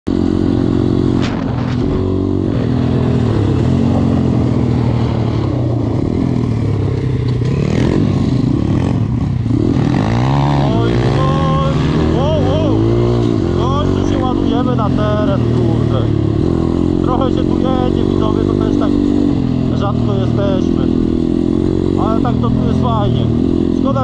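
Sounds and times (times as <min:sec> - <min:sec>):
dirt bike engine revving: 0:00.1 - 0:24.0.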